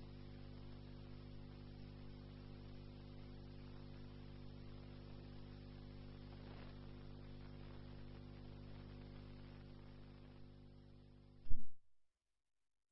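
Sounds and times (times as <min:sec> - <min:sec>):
low hiss: 0:00.0 - 0:11.7
faint electrical hum: 0:00.0 - 0:11.9.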